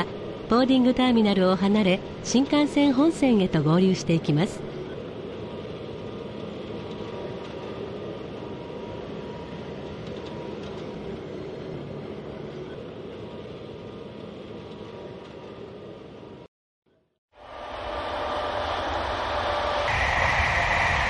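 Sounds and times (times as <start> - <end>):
train running on track: 0.0 - 16.5, 17.4 - 21.0.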